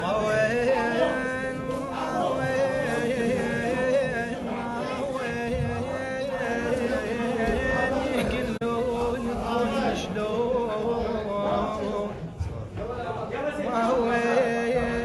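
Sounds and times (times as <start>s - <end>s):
man singing a lament: 0.0s - 12.3s, 13.4s - 15.0s.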